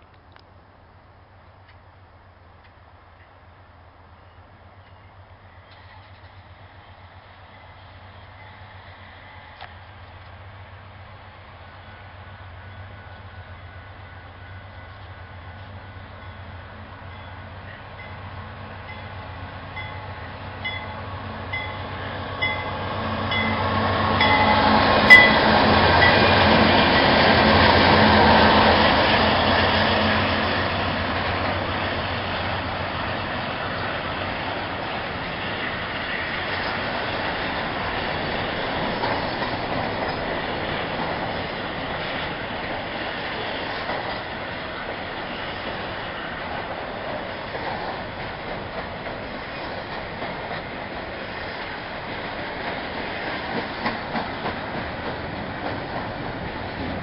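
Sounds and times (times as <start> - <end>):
diesel locomotives passing: 0.0 - 57.0
train wheel noise: 4.8 - 57.0.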